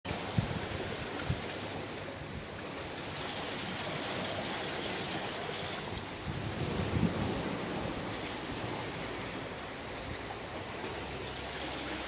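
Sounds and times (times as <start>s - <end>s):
rush of wind and water: 0.0s - 12.0s
wind buffeting microphone: 0.1s - 12.0s.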